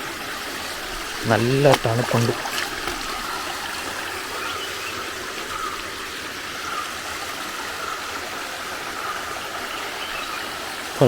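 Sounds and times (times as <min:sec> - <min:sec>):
small waterfall rushing: 0:00.0 - 0:11.0.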